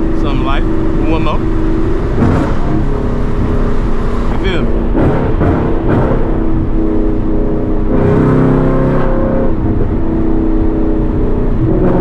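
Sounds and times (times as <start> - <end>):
car engine while driving: 0.0 - 12.0.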